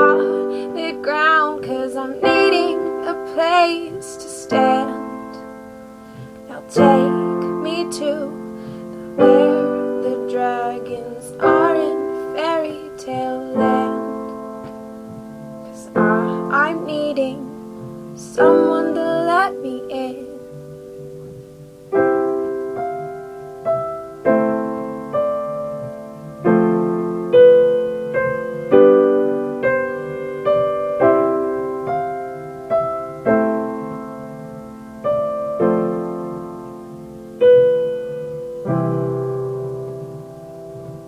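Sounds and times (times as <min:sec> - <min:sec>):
slow solo piano chords: 0:00.0 - 0:41.0.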